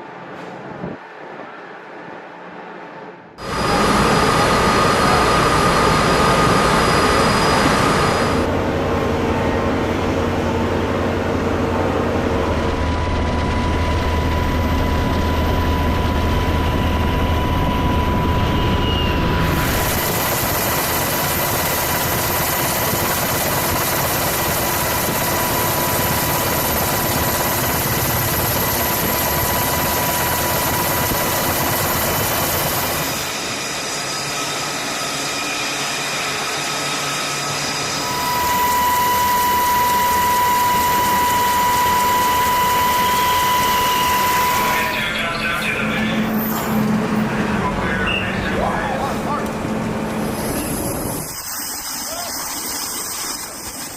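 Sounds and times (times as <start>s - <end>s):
engine with high whine: 0.0s - 53.9s.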